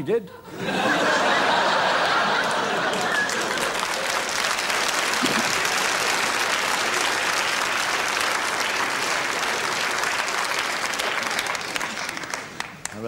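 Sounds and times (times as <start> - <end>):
audience applauding: 0.6 - 13.0.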